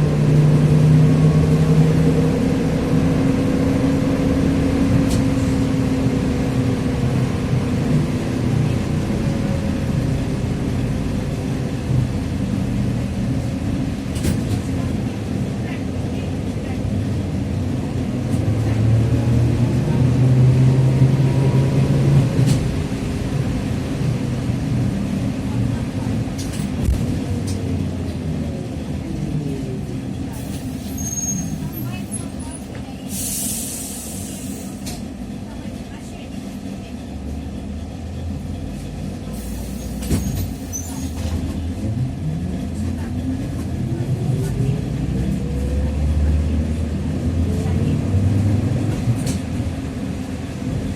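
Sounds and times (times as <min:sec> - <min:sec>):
trolleybus drivetrain humming: 0:00.0 - 0:50.9.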